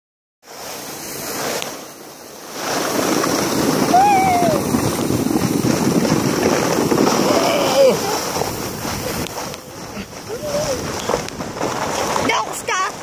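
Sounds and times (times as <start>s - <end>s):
sled scraping over snow: 0.4s - 13.0s
wind on microphone: 2.6s - 13.0s.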